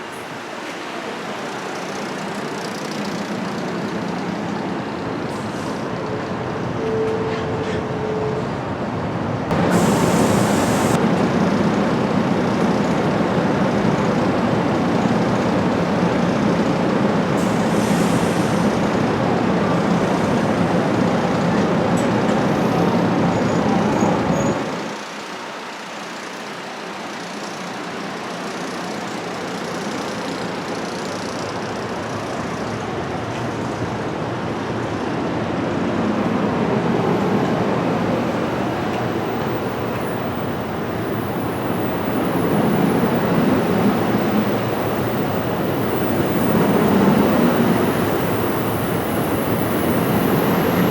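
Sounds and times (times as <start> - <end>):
train rumbling past: 0.0 - 50.9.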